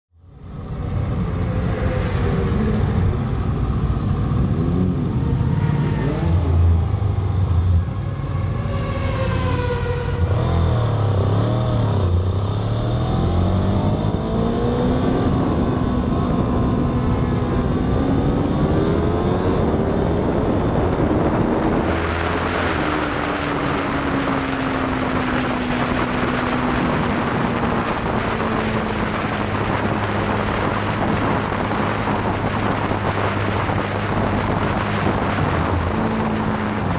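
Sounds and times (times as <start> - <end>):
wind rushing over microphone: 0.2 - 36.9
motorcycle engine accelerating: 0.4 - 36.9.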